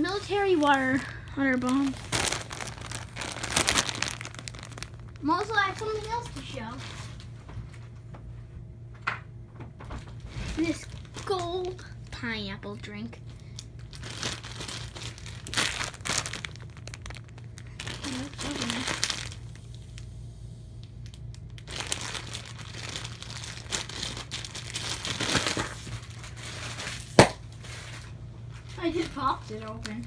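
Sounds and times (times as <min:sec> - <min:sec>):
plastic packaging crinkling: 0:00.0 - 0:07.4, 0:10.5 - 0:12.1, 0:13.2 - 0:20.1, 0:21.0 - 0:30.0.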